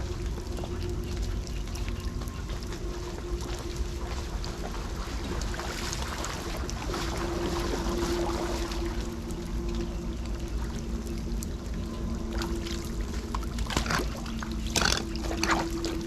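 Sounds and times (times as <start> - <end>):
steady hum: 0.0 - 16.0
water gurgling into storm drain: 0.0 - 16.0.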